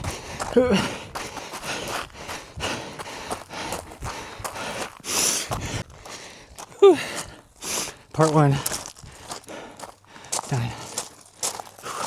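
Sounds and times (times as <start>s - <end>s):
loud gasping breath: 0.0s - 12.0s
person breathing hard: 0.0s - 12.0s.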